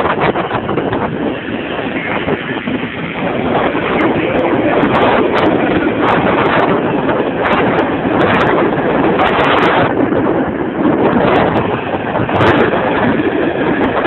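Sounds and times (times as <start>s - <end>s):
road noise: 0.0s - 14.0s
scooter engine: 0.0s - 14.0s
wind rushing over microphone: 0.0s - 14.0s.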